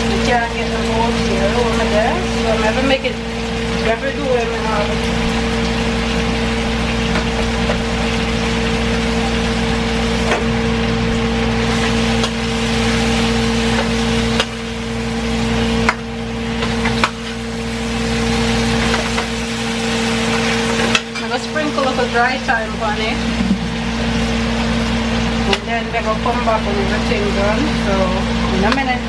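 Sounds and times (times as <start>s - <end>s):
food sizzling in a frying pan: 0.0s - 29.0s
steady low hum: 0.0s - 29.0s.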